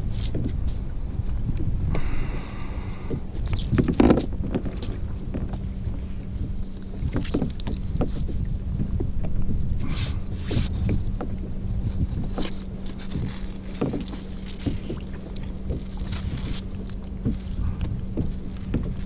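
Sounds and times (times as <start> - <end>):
water sounds: 0.0 - 19.0
wind rumble on microphone: 0.0 - 19.0.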